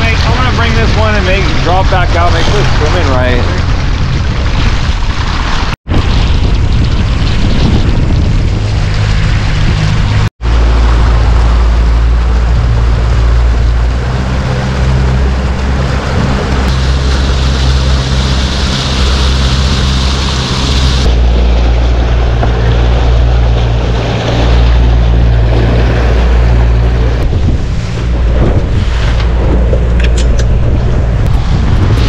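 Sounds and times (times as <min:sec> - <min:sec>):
outboard motor running: 0:00.0 - 0:32.0
wind and water rushing: 0:00.0 - 0:32.0.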